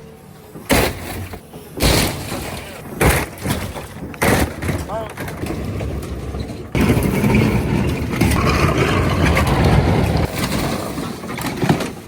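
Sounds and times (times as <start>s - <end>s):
diesel engine under load: 0.0s - 12.0s
crunching sheet metal: 0.7s - 12.0s.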